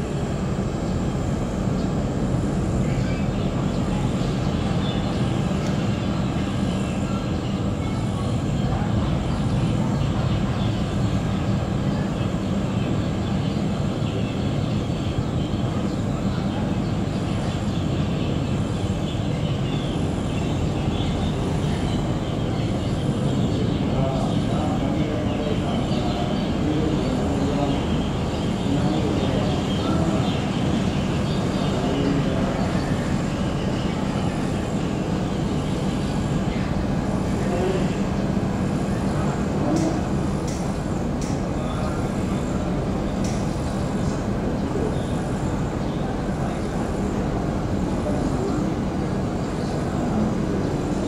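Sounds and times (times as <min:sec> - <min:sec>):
ship engine rumbling: 0:00.0 - 0:51.0.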